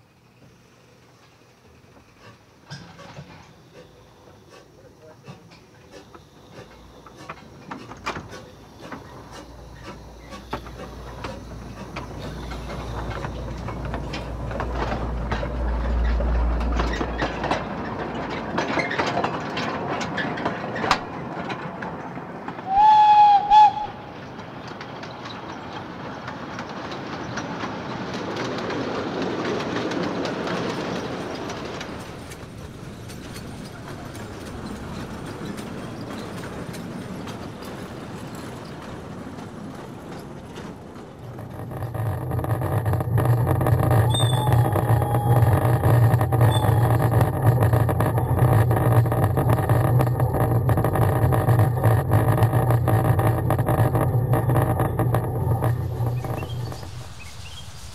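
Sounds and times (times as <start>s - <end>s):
train running noise: 0.0s - 57.9s
wheels clicking over rail joints: 0.2s - 57.9s.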